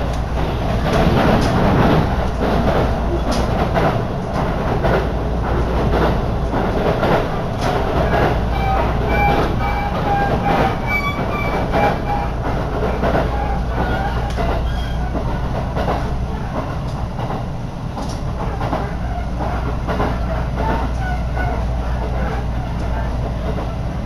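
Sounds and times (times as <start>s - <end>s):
wheels clattering on rails: 0.0s - 23.9s
train rumble: 0.0s - 24.0s.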